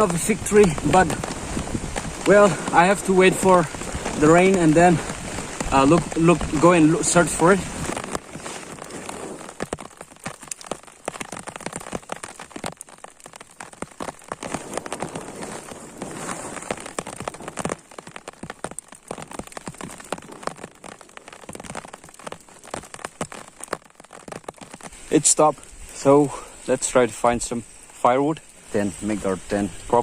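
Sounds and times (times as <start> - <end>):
rain falling: 0.0 - 30.0
raindrops ticking on surface: 0.0 - 30.0.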